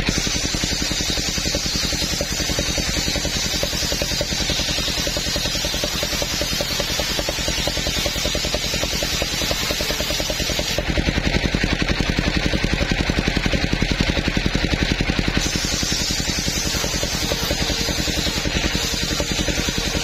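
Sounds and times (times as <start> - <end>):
table saw cutting wood: 0.0 - 20.0.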